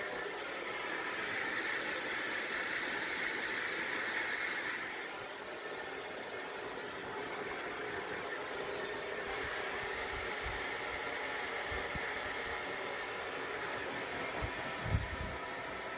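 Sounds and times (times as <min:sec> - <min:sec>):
hair dryer running: 0:00.0 - 0:15.9.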